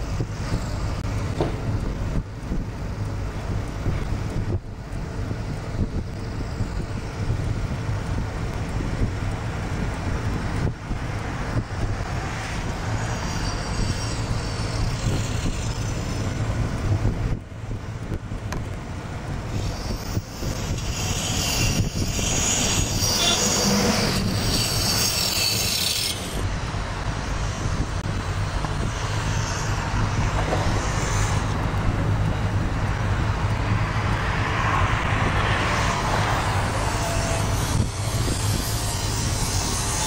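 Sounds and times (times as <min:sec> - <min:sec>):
low mechanical rumble: 0:00.0 - 0:40.0.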